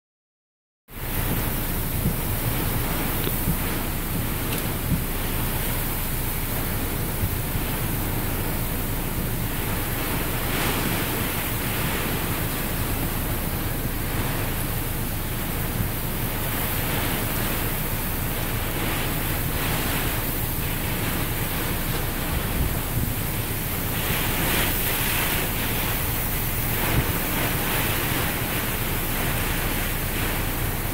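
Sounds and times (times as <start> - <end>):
heavy rain: 0.9 - 30.9
strong wind gusting: 0.9 - 30.9
wind buffeting microphone: 1.0 - 30.9.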